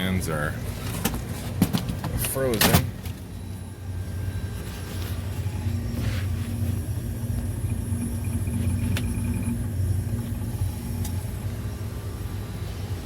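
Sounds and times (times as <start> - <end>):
refrigeration equipment humming: 0.0 - 13.0.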